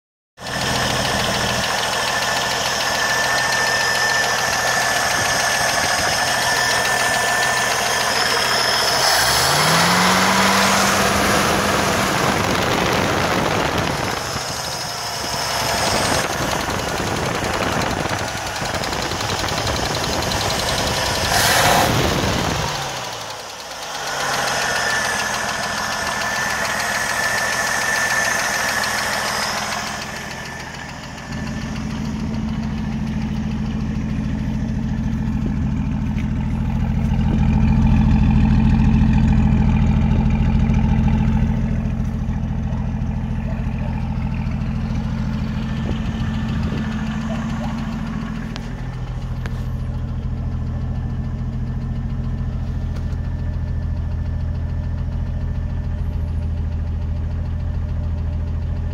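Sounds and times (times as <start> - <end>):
engine idling: 0.4 - 58.9
engine ticking: 0.4 - 58.9.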